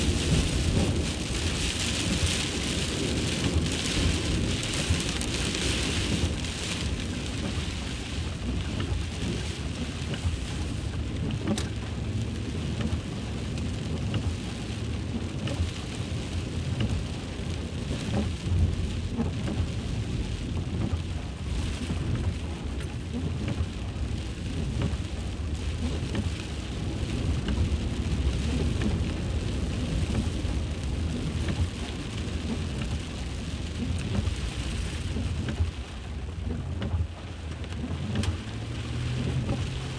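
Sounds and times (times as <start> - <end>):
deep continuous rumble: 0.0 - 39.9
heavy rain pouring: 0.0 - 39.9.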